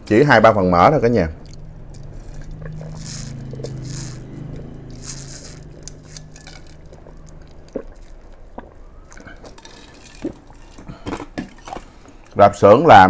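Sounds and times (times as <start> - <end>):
low hum: 0.7 - 12.4.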